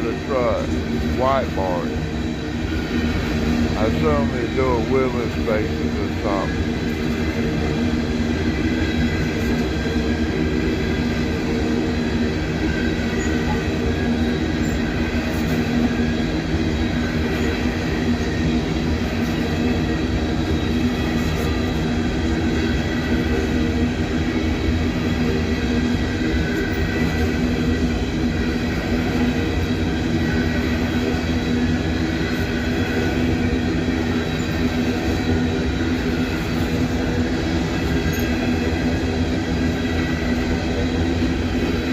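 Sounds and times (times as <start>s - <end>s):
steady ringing whine: 0.0s - 41.9s
steel wheels rumbling on rail: 0.0s - 41.9s.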